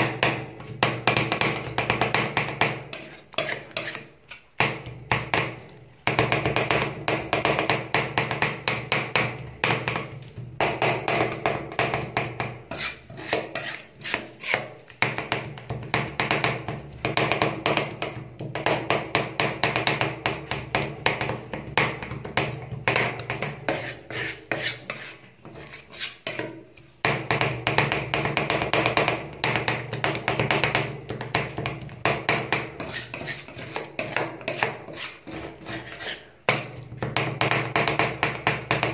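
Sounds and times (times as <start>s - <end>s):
metal spatulas chopping and scraping: 0.0s - 38.9s.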